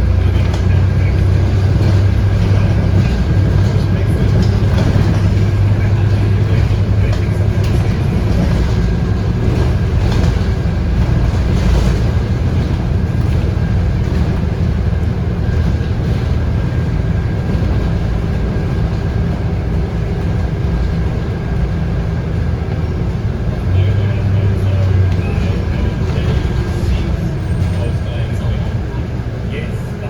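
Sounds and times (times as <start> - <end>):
bus diesel engine running: 0.0 - 30.0
road noise: 0.0 - 30.0.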